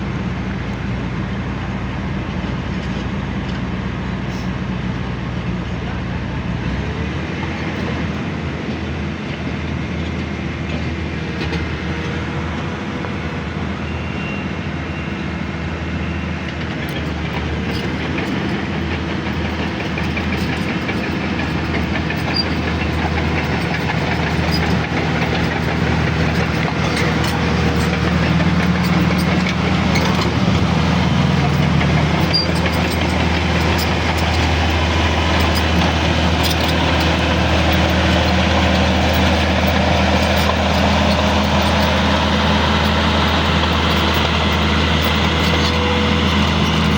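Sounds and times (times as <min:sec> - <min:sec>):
diesel machinery running: 0:00.0 - 0:46.9.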